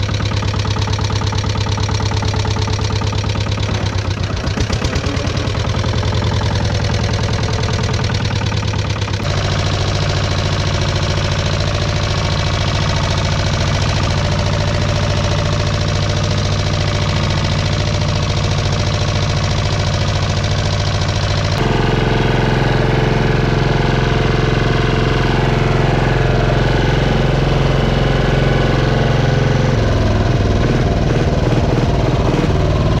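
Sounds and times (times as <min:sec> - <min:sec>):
small tractor engine running: 0:00.0 - 0:33.0.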